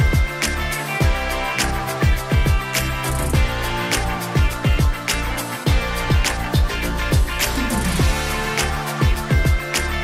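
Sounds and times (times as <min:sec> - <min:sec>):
music with steady drum beat: 0:00.0 - 0:10.0.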